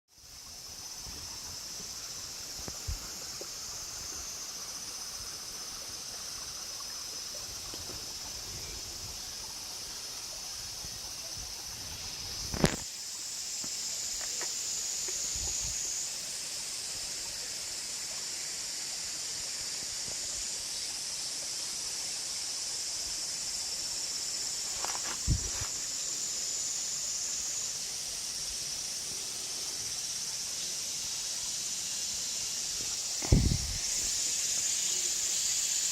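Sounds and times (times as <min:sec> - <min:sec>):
high-pitched outdoor hiss: 0:00.1 - 0:35.9.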